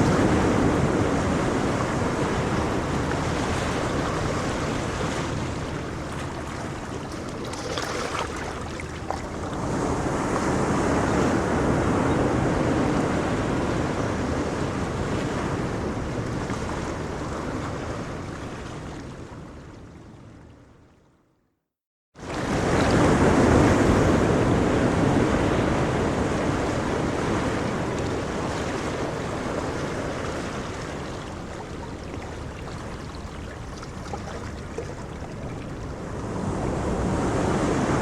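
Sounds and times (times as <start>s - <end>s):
wind on microphone: 0.0s - 19.5s, 22.4s - 38.0s
ocean waves breaking on shore: 0.0s - 20.1s, 22.2s - 38.0s.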